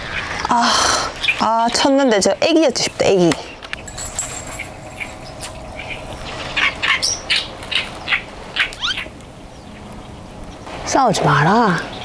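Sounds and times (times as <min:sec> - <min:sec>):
birds squawking: 0:02.2 - 0:12.0.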